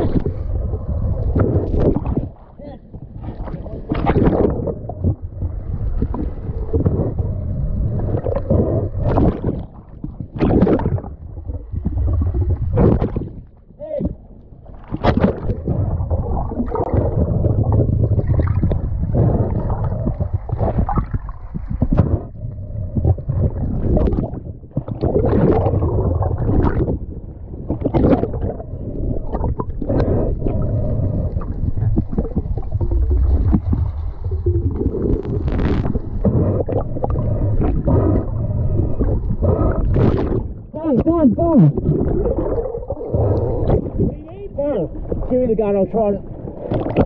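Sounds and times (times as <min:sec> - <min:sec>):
underwater water rush and gurgling: 0:00.0 - 0:47.0.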